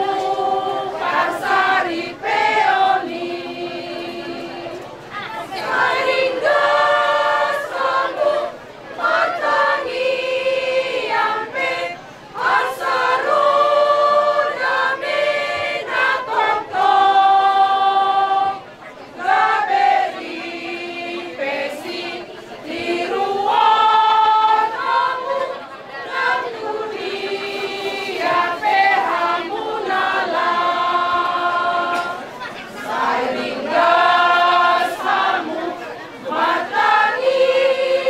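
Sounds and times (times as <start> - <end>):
women singing in chorus: 0.0 - 38.0.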